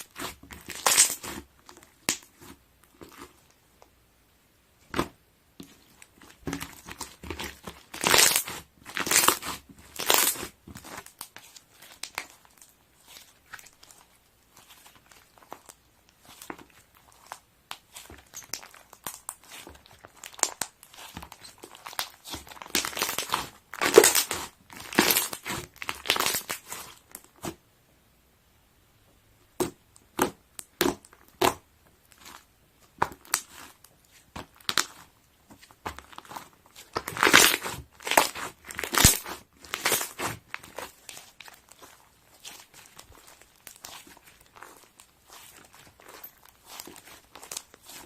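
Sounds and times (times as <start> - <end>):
crinkling and rustling handling: 0.0 - 4.0, 4.8 - 27.6, 29.6 - 48.0.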